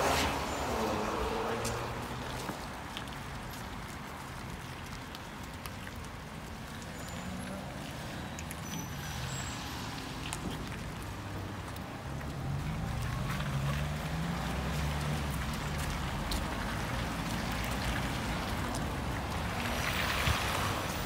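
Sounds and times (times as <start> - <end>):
tyres hissing on wet road: 0.0 - 21.0.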